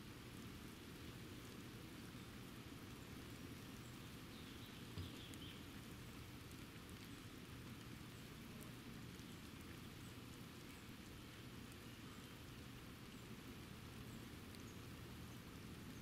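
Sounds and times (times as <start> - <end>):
faint rain hiss: 0.0 - 16.0.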